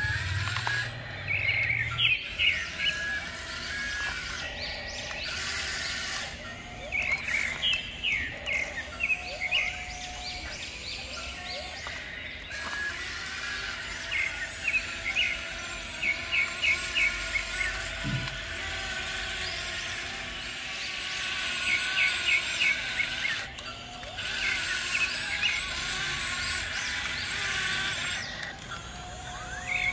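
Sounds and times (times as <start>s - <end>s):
birds chirping and calling: 0.0s - 29.9s.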